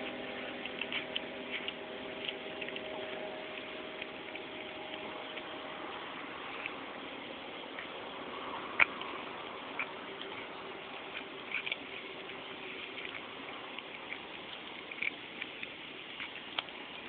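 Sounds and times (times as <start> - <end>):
cat chewing with crunches: 0.0 - 17.0
steady background hiss: 0.0 - 17.0.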